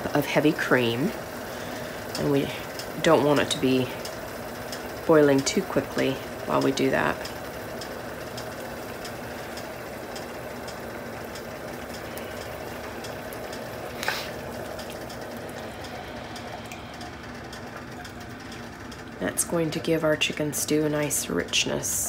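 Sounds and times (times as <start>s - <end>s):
faint hum: 0.0s - 22.0s
broth bubbling and popping: 0.1s - 19.8s
cream being poured: 0.2s - 18.4s.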